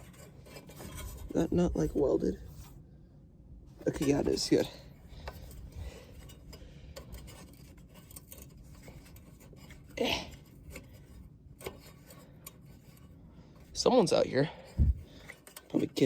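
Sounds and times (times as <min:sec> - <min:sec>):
hand tools and metal parts clinking: 0:00.0 - 0:02.7, 0:03.8 - 0:16.0.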